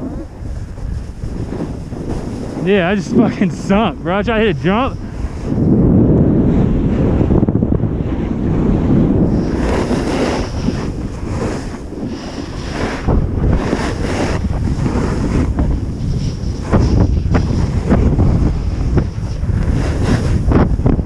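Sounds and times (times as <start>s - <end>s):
ski edges scraping snow: 0.0s - 5.7s, 8.6s - 20.6s
wind buffeting microphone: 0.0s - 21.0s.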